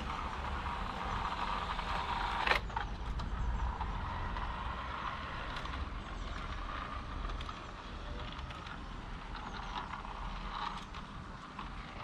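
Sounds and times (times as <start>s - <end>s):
model locomotive motor whirring: 0.0s - 12.0s.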